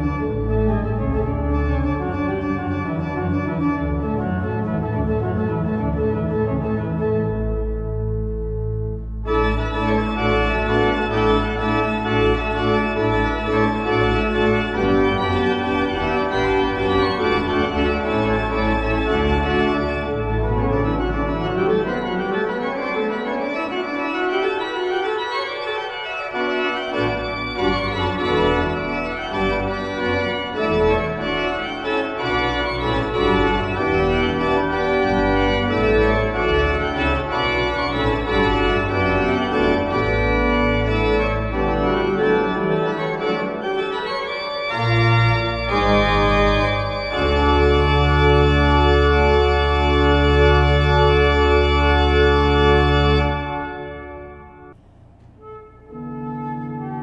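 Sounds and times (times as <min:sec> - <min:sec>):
organ pedal bass notes: 0:00.0 - 0:57.0
pipe organ chords: 0:00.0 - 0:57.0.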